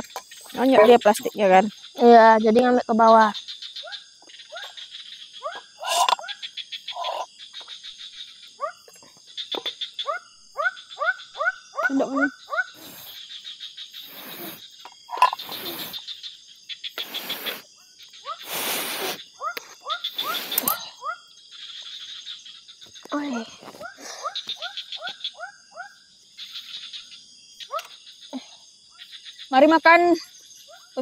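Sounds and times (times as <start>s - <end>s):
frogs chirping: 0.0s - 31.0s
insects trilling and buzzing: 0.0s - 31.0s.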